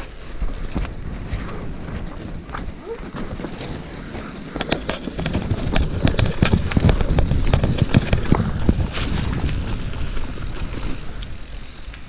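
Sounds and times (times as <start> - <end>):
bike tyres rumbling over ground: 0.0 - 12.0
wind buffeting microphone: 0.0 - 12.0.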